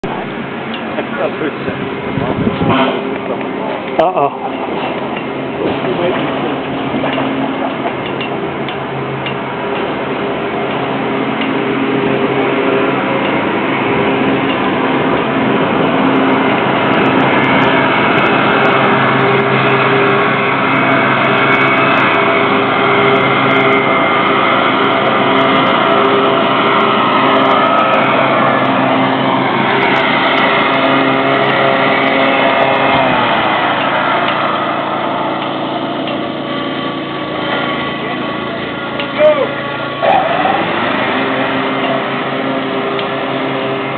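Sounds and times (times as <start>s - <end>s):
machine motor running: 0.3s - 43.9s.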